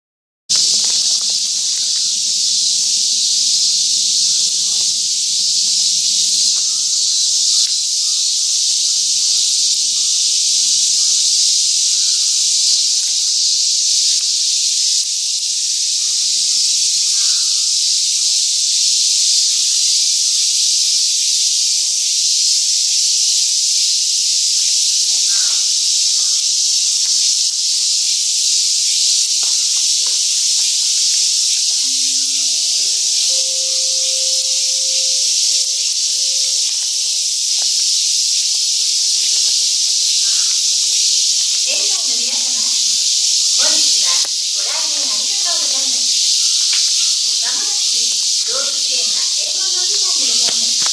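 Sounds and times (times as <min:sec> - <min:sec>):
cicadas chorus: 0:00.5 - 0:50.9.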